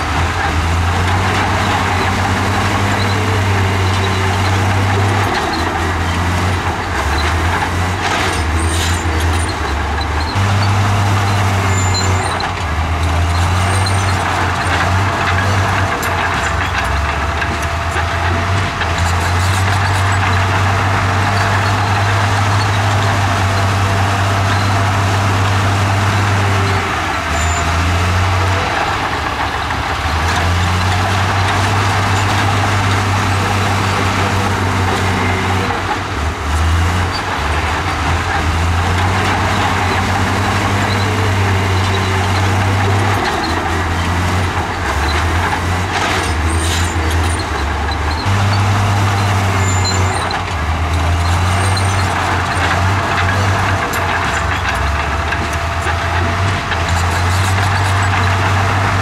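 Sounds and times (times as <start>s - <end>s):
bulldozer diesel engine drone: 0.0s - 59.0s
dozer pushing dirt and rock: 0.0s - 59.0s.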